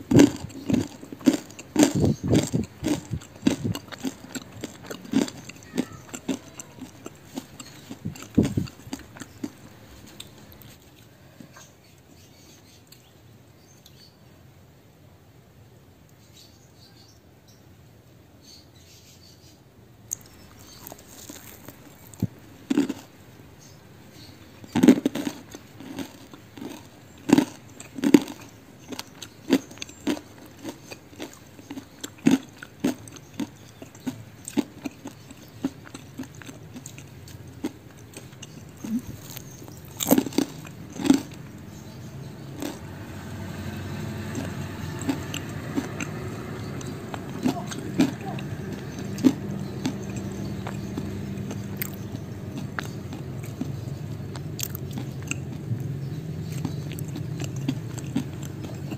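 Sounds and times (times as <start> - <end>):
crunching crispy snacks: 0.0 - 11.7, 20.1 - 58.9
low steady hum: 0.0 - 16.7, 19.7 - 58.9.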